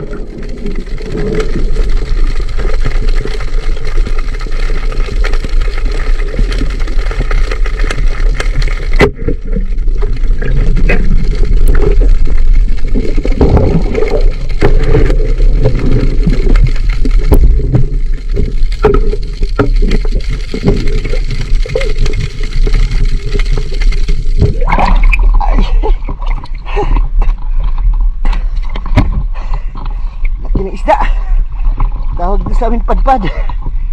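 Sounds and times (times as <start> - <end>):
underwater gurgling and sloshing: 0.0 - 33.9.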